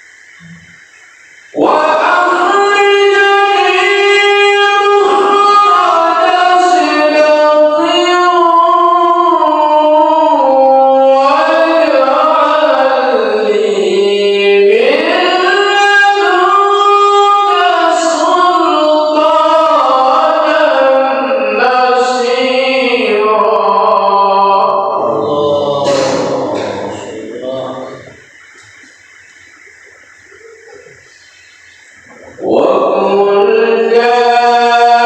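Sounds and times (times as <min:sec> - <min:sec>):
person reciting melodically: 0:00.0 - 0:00.8, 0:01.4 - 0:35.0.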